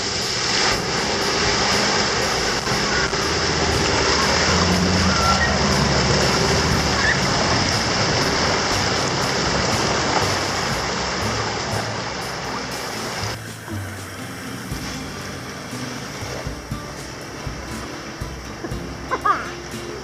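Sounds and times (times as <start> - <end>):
car engine running: 0.0 - 19.8
water surging and splashing: 0.0 - 20.0.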